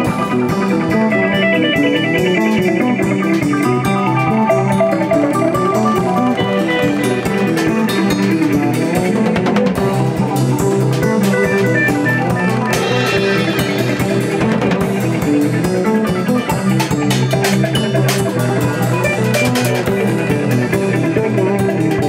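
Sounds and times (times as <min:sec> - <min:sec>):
drums and percussion: 0:00.0 - 0:22.0
plucked guitar notes: 0:00.0 - 0:22.0.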